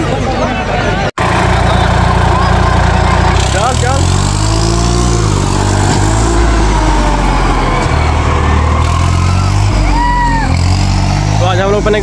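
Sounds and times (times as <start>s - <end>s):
tractor diesel engine running: 1.2s - 12.0s.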